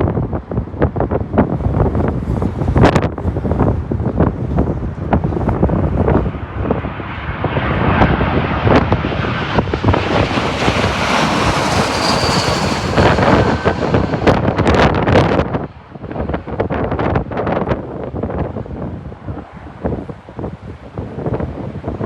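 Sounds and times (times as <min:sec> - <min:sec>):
wind buffeting microphone: 0:00.0 - 0:22.0
jet airliner passing overhead: 0:00.1 - 0:22.0.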